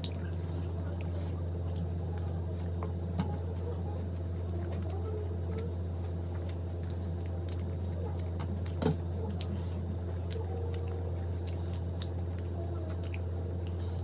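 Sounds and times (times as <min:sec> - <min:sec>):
person chewing food: 0:00.0 - 0:03.0, 0:04.0 - 0:14.0
steady low hum: 0:00.0 - 0:14.0.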